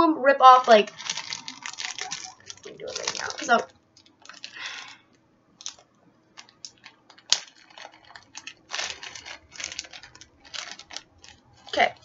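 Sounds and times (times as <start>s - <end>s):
treat crackling and crinkling: 0.4s - 12.0s.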